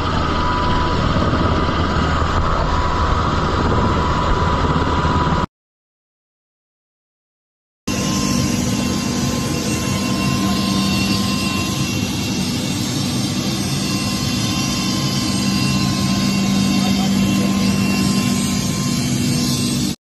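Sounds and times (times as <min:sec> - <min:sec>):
helicopter engines and rotor drone: 0:00.0 - 0:05.5, 0:07.9 - 0:20.0
thin steady turbine whine: 0:00.0 - 0:05.5, 0:07.9 - 0:20.0.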